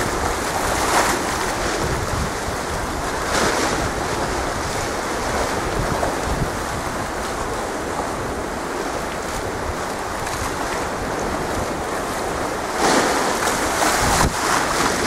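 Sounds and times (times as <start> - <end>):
choppy sea washing: 0.0 - 15.0
wind on microphone: 0.0 - 15.0.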